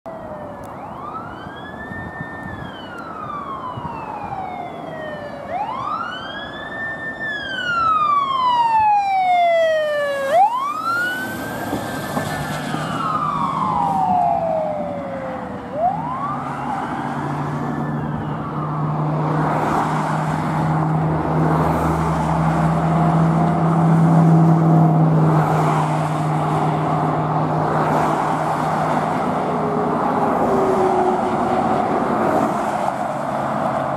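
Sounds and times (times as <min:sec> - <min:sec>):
road and traffic noise: 0:00.0 - 0:33.9
fire engine siren wailing: 0:00.1 - 0:33.9.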